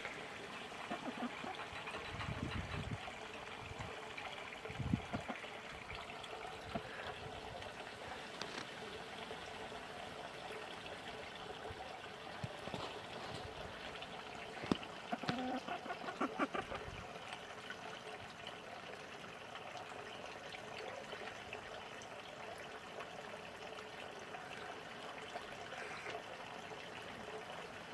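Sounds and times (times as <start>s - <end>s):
water trickling: 0.0s - 27.9s.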